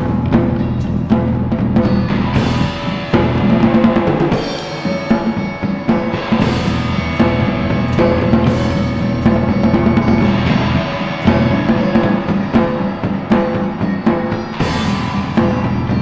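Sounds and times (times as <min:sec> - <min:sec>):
steady drum beat: 0:00.0 - 0:16.0
sustained pitched notes: 0:01.6 - 0:16.0.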